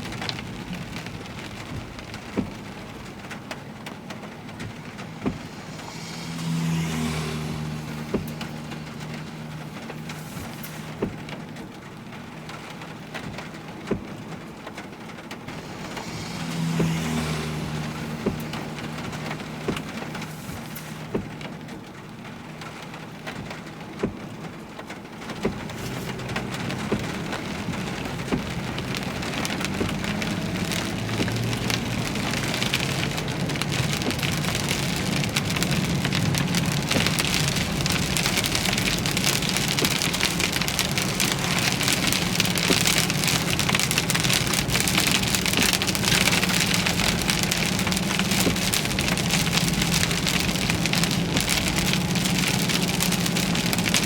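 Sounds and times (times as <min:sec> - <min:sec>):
low car hum: 0:00.0 - 0:54.0
rain on a vehicle: 0:00.0 - 0:54.0.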